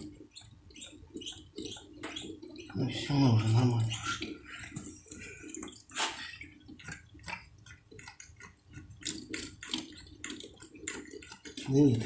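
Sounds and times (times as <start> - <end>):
fuel trickling into a plastic bottle: 0.0 - 12.0.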